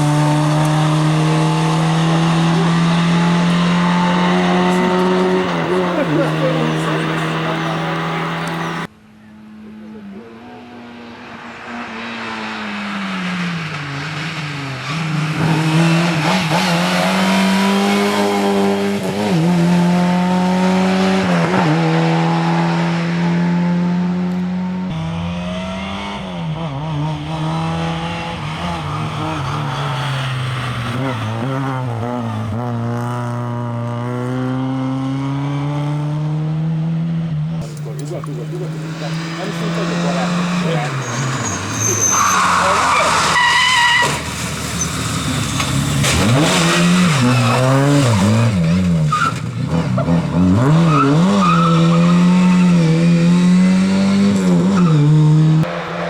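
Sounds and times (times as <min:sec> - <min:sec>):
rally car engine revving: 0:00.0 - 0:08.9, 0:10.0 - 0:56.0.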